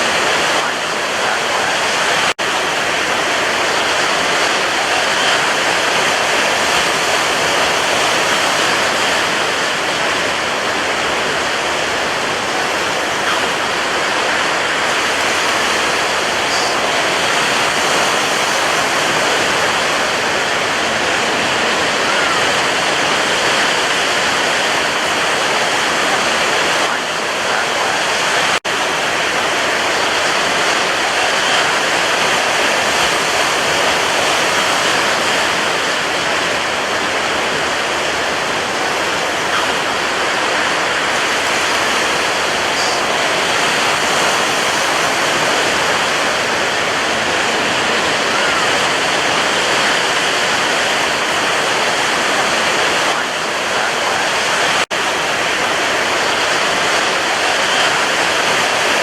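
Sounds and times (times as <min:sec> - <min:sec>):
sea surf rushing: 0:00.0 - 0:59.0.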